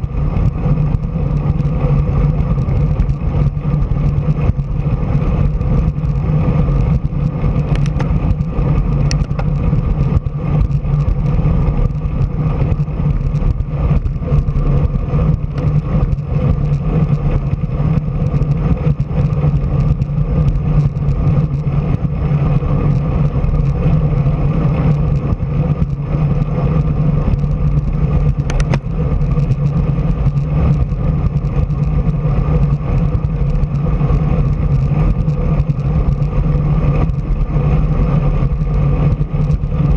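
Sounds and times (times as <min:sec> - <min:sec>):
low hum: 0:00.0 - 0:39.9
road and wind noise: 0:00.0 - 0:39.9.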